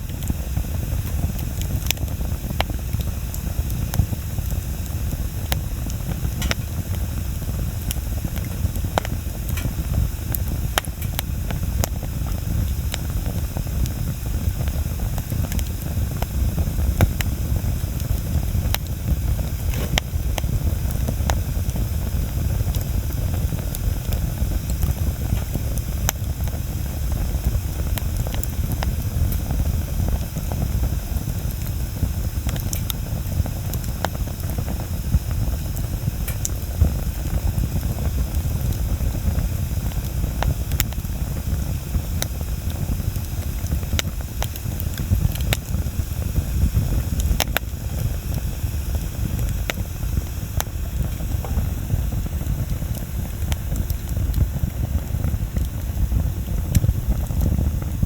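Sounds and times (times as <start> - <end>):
bonfire rushing: 0.0 - 58.0
fire crackles and pops: 0.0 - 58.0.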